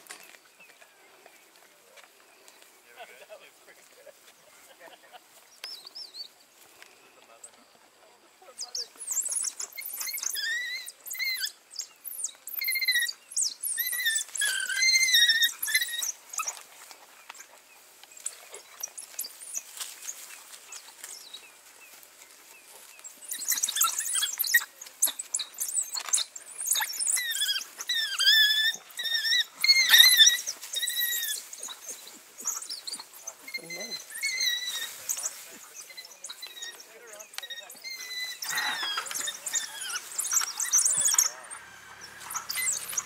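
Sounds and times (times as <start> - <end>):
wild dogs chirping calls: 0.0 - 43.0.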